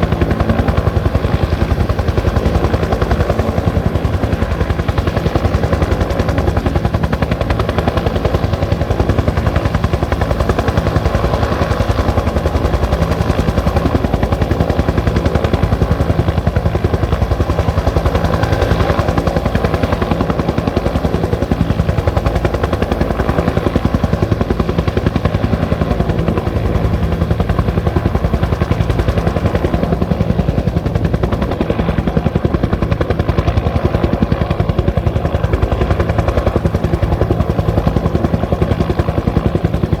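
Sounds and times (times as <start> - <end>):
helicopter rotor beating: 0.0 - 40.0.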